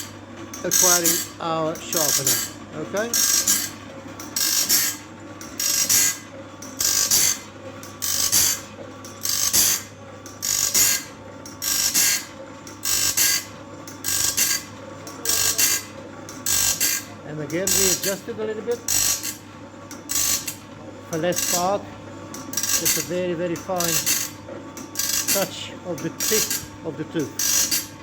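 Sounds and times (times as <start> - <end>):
machine motor hum: 0.0 - 28.0
abrasive grinding of saw blade: 0.6 - 6.2, 6.8 - 7.4, 8.0 - 19.4, 20.1 - 20.6, 21.2 - 21.8, 22.5 - 24.4, 25.0 - 27.9.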